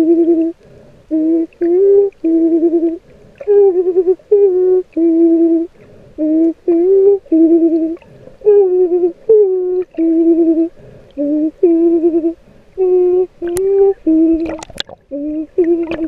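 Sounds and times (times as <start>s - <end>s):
person humming a slow tune: 0.0s - 16.0s.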